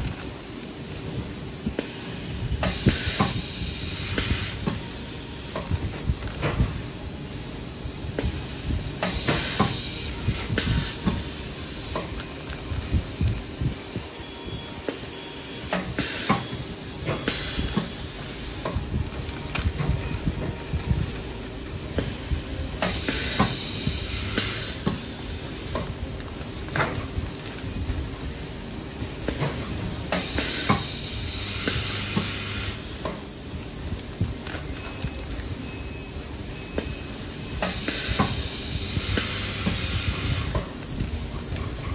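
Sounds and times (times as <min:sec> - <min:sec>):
pneumatic air hisses: 0:00.0 - 0:26.0, 0:26.7 - 0:41.9.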